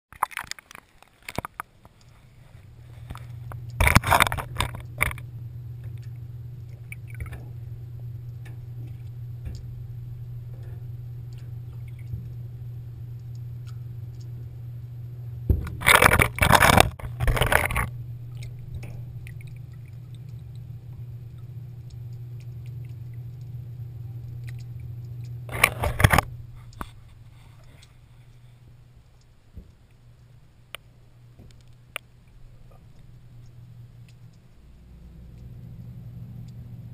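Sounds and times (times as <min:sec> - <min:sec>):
muffled underwater hum: 0:01.0 - 0:36.9.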